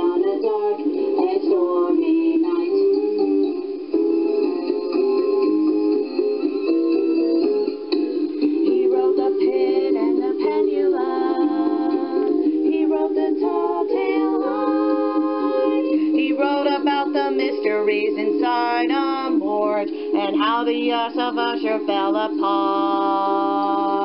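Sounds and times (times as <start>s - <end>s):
voices singing: 0.0s - 3.7s, 8.4s - 24.0s
instrumental accompaniment: 0.0s - 24.0s.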